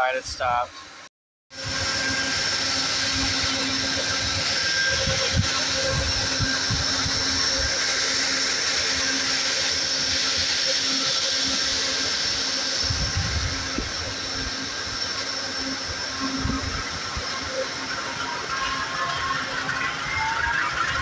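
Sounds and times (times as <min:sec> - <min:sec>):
diesel locomotive idling: 0:01.6 - 0:21.0.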